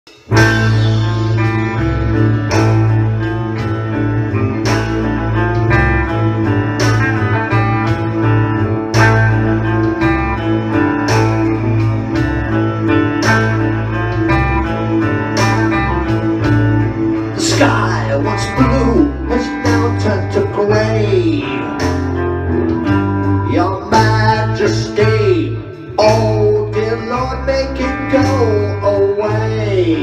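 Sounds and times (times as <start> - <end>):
electric guitar: 0.1 - 30.0
rock beat: 0.1 - 30.0
steady bass line: 0.1 - 30.0.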